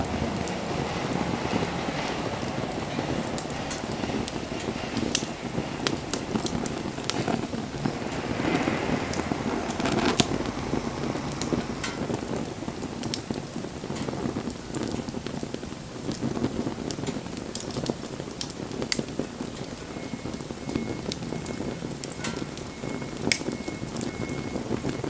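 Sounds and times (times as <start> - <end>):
campfire crackling and popping: 0.0 - 25.0
rushing hiss of flames: 0.0 - 25.0.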